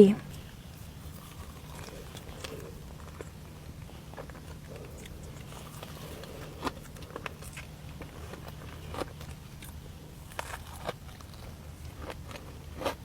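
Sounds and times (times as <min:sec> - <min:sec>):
chewing pastry: 0:00.2 - 0:13.0
pastry crunches: 0:00.4 - 0:13.0.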